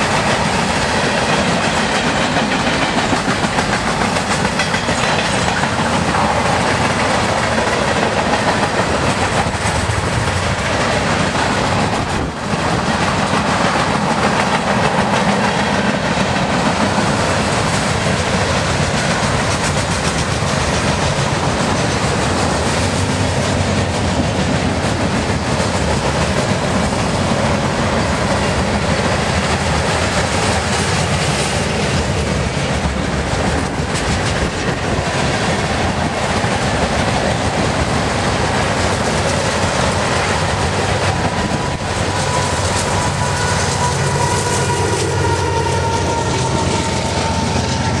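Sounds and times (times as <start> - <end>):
freight train rumbling past: 0.0 - 48.0
wheels clicking over rail joints: 0.0 - 48.0.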